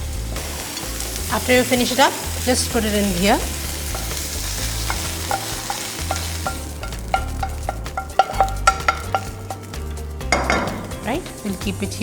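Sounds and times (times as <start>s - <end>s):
spinach sizzling in a pan: 0.0s - 12.0s
spatula scraping a pan: 0.5s - 11.5s.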